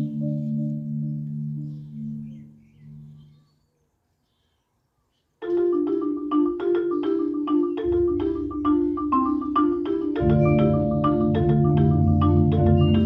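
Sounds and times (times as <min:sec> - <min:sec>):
mallet percussion pattern: 0:00.0 - 0:03.1, 0:05.4 - 0:13.0.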